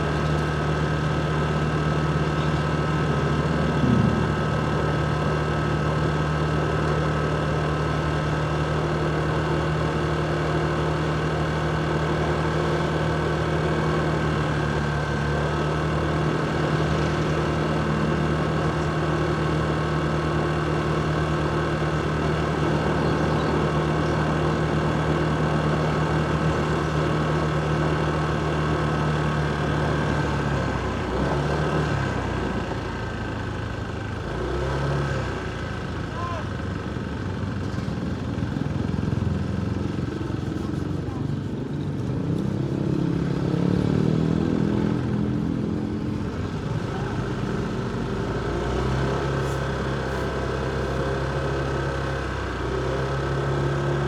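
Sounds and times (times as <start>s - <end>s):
motorcycle engine running: 0.0s - 34.8s, 35.4s - 54.0s
road and traffic noise: 0.0s - 54.0s.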